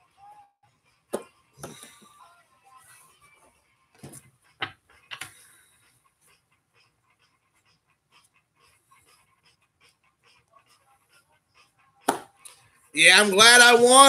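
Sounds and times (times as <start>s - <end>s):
faint rhythmic breathing: 0.0s - 14.0s.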